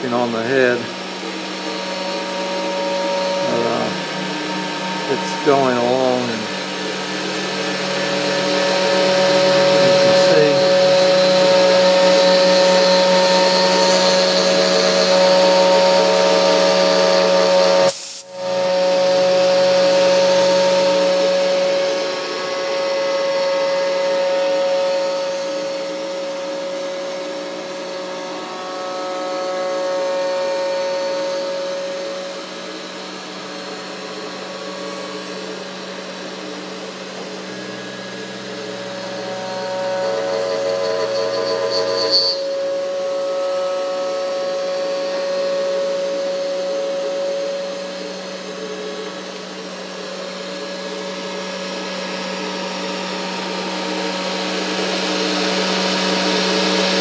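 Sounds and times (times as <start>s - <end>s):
router spindle whine: 0.0s - 57.0s.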